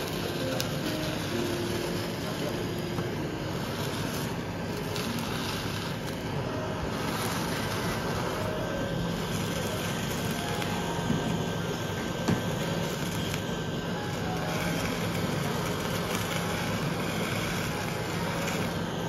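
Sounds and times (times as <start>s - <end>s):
blowtorch hissing: 0.0s - 19.0s.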